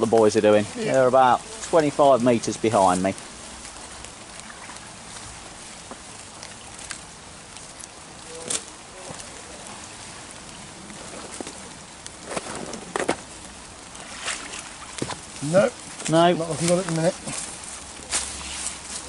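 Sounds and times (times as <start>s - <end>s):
brook water flowing: 0.0s - 19.0s
rain hissing: 0.0s - 19.0s
rope clicks and rustles: 1.4s - 19.0s.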